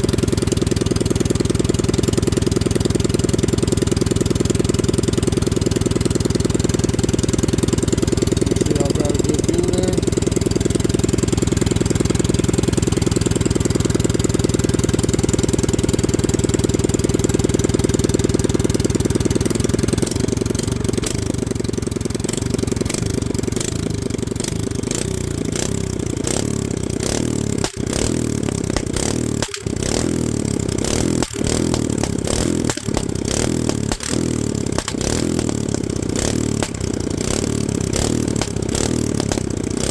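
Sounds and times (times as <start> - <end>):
single-cylinder engine running loud: 0.0 - 39.9.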